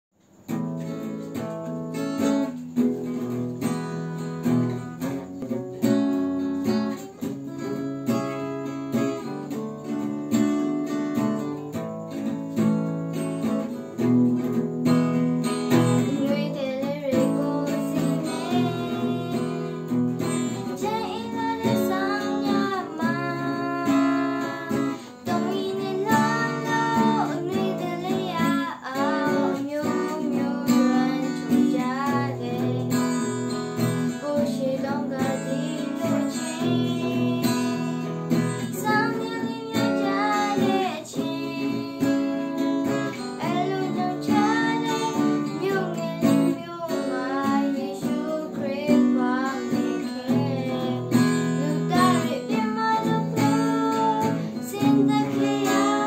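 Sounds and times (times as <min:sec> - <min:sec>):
acoustic guitar strumming: 0:00.3 - 0:56.0.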